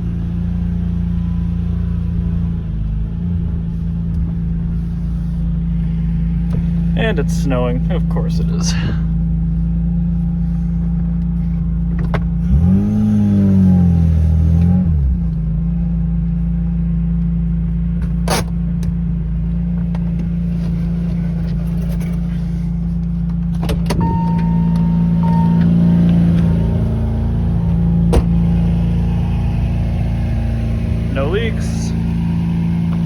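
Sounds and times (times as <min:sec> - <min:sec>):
car engine idling: 0:00.0 - 0:33.0
engine rev: 0:00.0 - 0:33.0.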